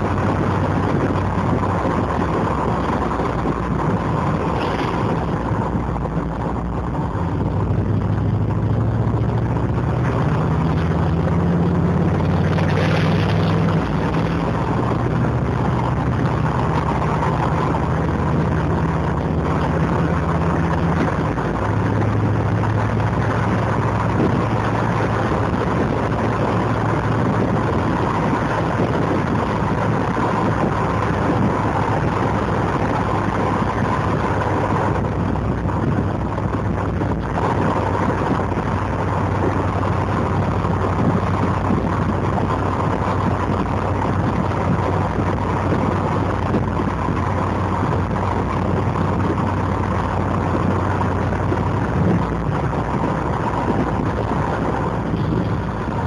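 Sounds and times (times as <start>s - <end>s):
car engine low burble: 0.0s - 56.0s
road and wind noise: 0.0s - 56.0s.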